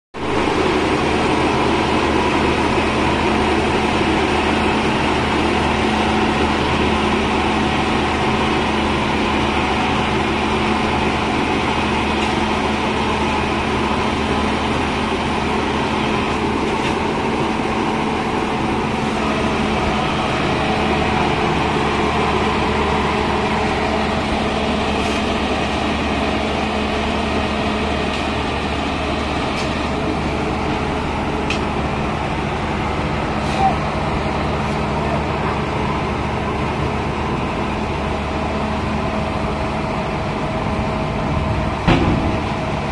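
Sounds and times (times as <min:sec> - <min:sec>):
diesel engine droning: 0:00.2 - 0:42.9.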